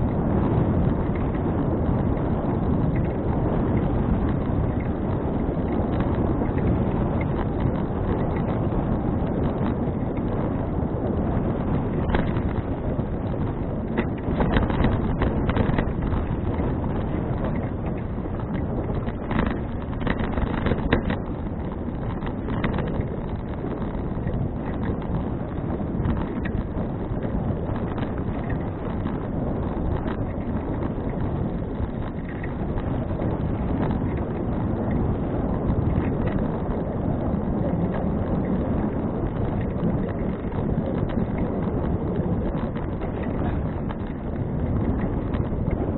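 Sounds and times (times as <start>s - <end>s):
sharp clicks and rattles: 0.0s - 45.9s
wind buffeting microphone: 0.0s - 45.9s.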